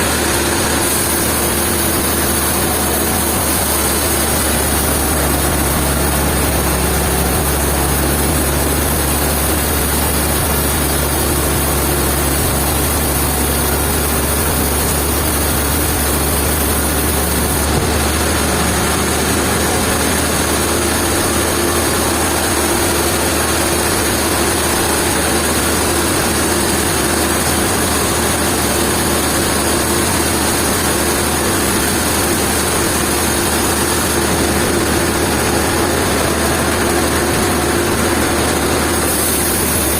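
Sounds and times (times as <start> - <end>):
heavy engine droning: 0.0 - 39.9.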